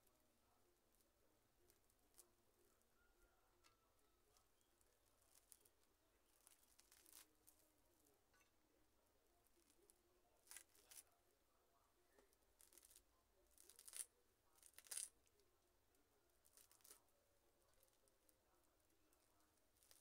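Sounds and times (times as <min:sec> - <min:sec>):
faint snips and rustles of plant: 0:00.0 - 0:08.6, 0:09.4 - 0:11.2, 0:12.1 - 0:20.0.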